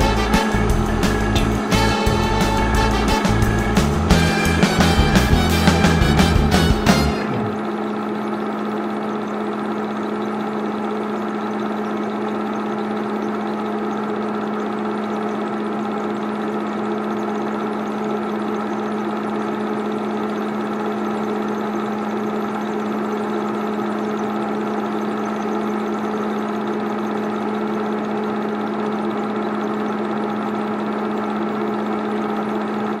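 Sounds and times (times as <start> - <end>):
film projector running: 0.0 - 33.0.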